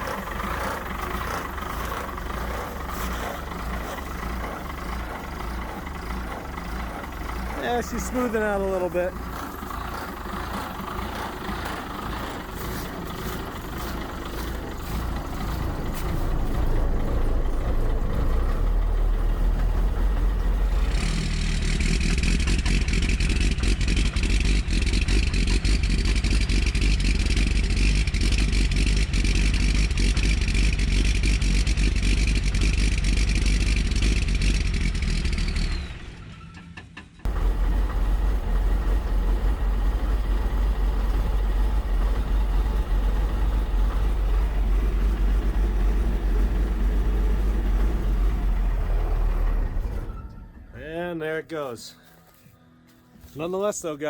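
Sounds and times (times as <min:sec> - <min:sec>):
diesel engine idling: 0:00.0 - 0:36.4, 0:37.1 - 0:52.2.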